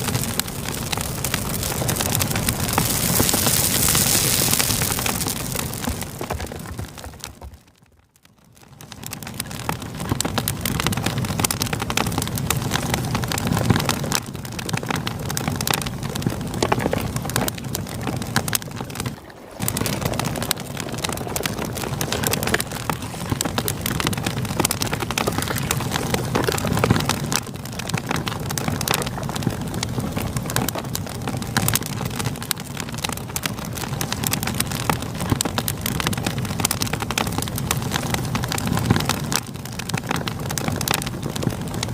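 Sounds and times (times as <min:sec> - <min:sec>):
campfire crackling: 0:00.0 - 0:41.9.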